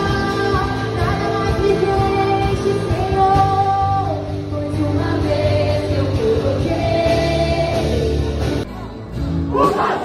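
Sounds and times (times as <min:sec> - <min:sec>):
steady bass: 0:00.0 - 0:10.0.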